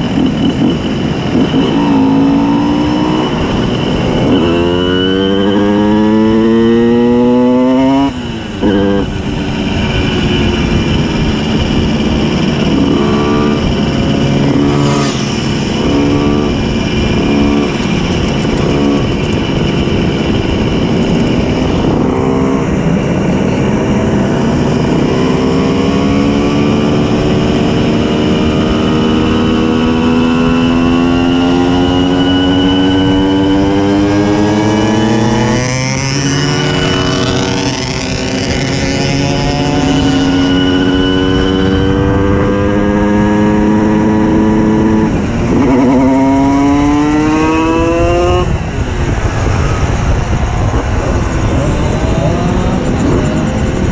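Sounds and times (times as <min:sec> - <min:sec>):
moped engine accelerating: 0:00.0 - 0:53.9.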